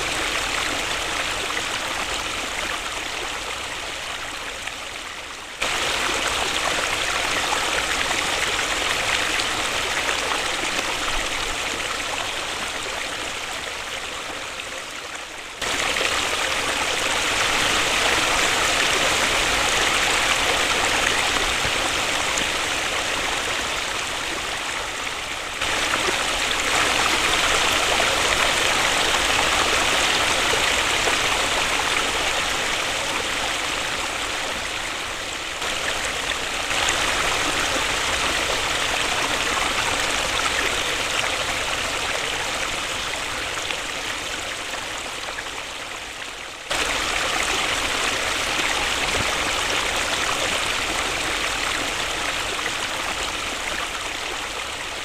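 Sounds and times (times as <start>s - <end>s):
waterfall rushing: 5.6s - 13.9s, 15.6s - 45.4s, 46.7s - 55.0s.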